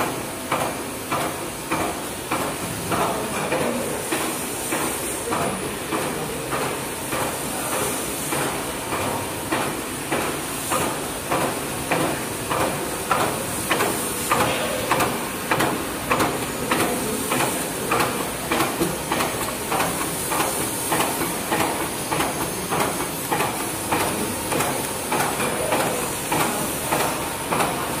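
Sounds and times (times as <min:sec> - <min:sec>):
constant machine hiss: 0:00.0 - 0:28.0.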